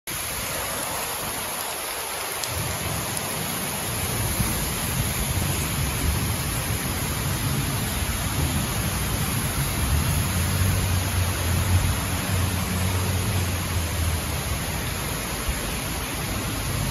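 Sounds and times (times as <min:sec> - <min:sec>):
heavy rain hissing: 0:00.1 - 0:16.9.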